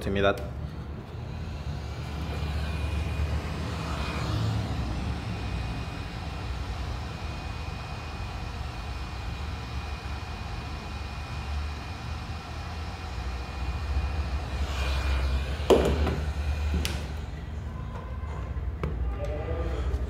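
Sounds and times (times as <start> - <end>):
hot air gun blowing: 1.0 - 17.5.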